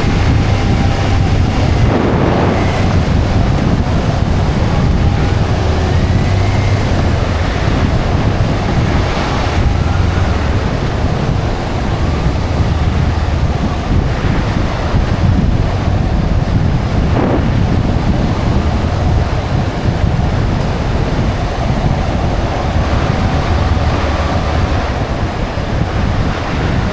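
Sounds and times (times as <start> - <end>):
motorcycle engine hum: 0.0 - 26.9
wind rushing over microphone: 0.0 - 26.9.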